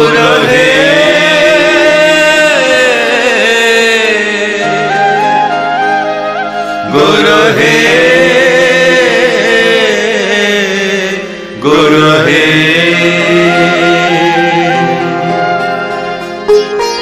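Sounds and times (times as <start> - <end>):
slow devotional chant singing: 0.0 - 5.3, 6.8 - 15.7.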